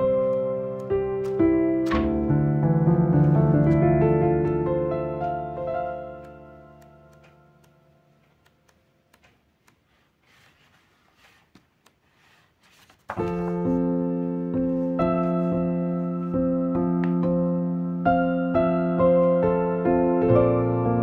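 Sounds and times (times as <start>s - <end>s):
soft piano music: 0.0s - 9.2s, 13.1s - 21.0s.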